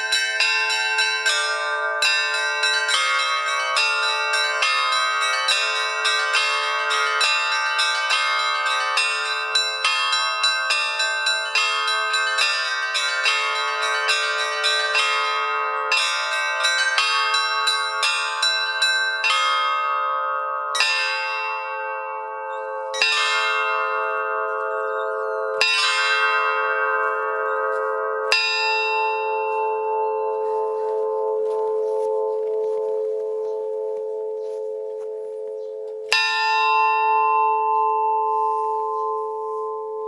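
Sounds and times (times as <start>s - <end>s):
bells ringing: 0.0s - 40.0s.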